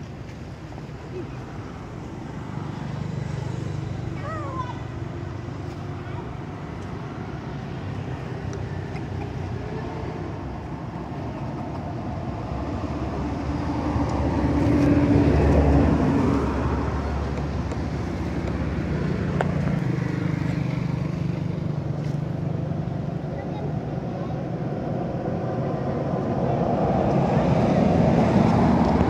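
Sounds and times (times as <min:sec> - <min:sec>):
low engine hum: 0:00.0 - 0:29.0
motor vehicle passing: 0:00.0 - 0:29.0.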